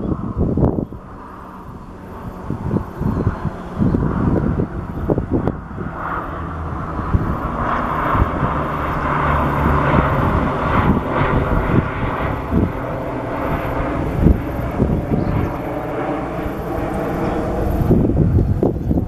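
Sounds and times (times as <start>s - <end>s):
distant engine droning: 0.0s - 19.0s
wind buffeting microphone: 0.0s - 19.0s.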